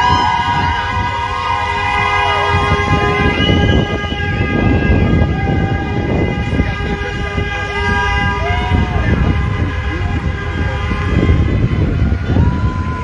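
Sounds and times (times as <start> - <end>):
siren-like wails: 0.0 - 13.0
vehicle horns blaring: 0.0 - 13.0.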